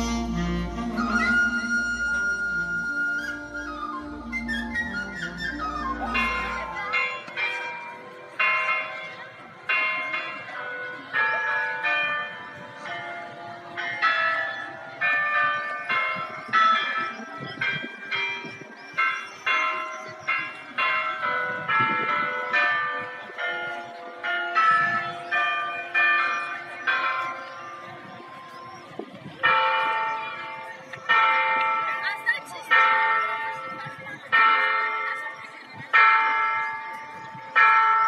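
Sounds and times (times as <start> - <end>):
bells playing a melody: 0.0 - 38.0.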